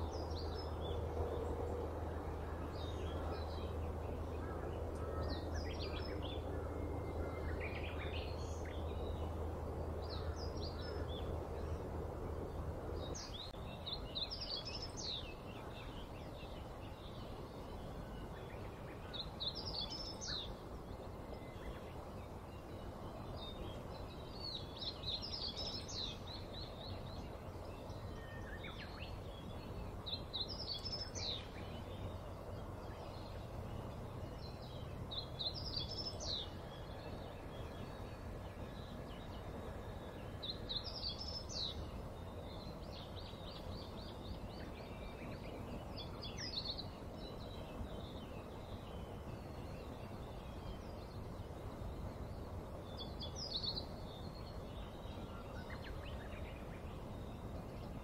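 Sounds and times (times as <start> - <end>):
outdoor background noise: 0.0 - 58.0
songbird singing: 0.0 - 58.0.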